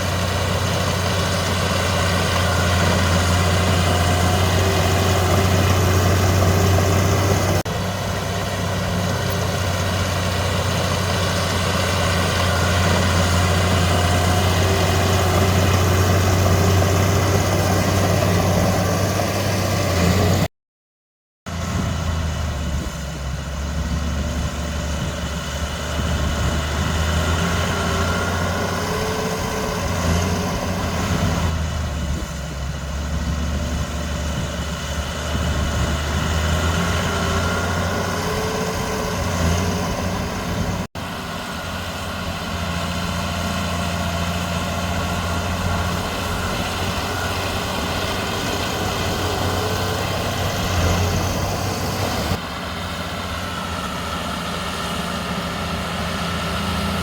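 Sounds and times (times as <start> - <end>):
heavy diesel engines running: 0.0 - 20.5, 21.5 - 57.0.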